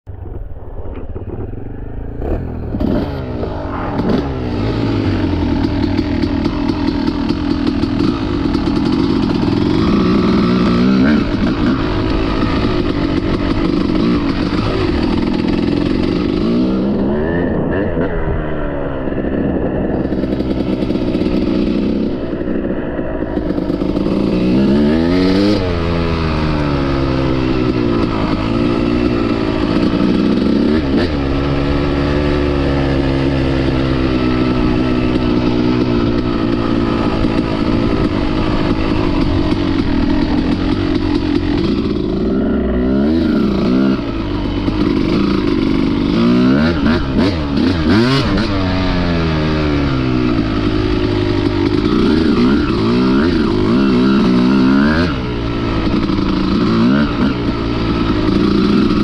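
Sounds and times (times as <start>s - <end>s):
dirt bike engine revving: 1.0s - 59.0s.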